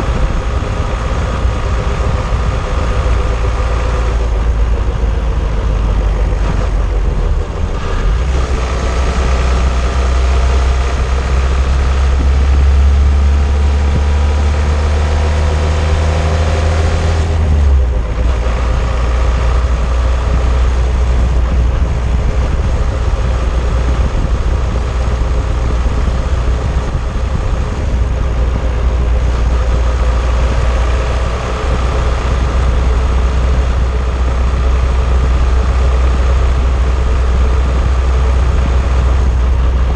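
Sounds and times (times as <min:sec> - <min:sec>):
car engine: 0:00.0 - 0:39.9
road and tyre rumble: 0:00.0 - 0:39.9.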